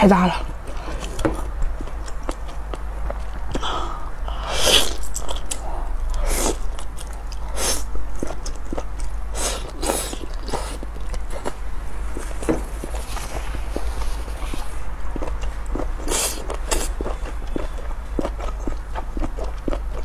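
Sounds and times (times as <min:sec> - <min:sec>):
chewing with slurps and bites: 0:00.3 - 0:20.0.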